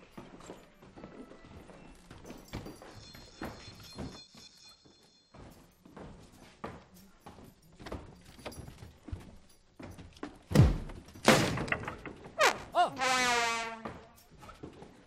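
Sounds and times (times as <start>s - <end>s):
footsteps on wooden floorboards: 0.0s - 12.6s, 13.4s - 15.0s.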